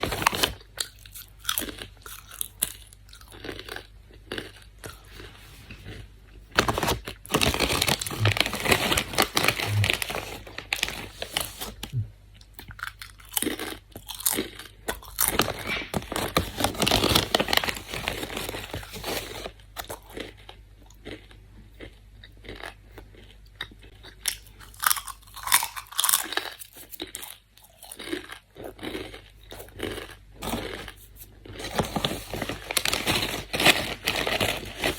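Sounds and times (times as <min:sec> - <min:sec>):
chips crunching being chewed: 0:00.0 - 0:34.9.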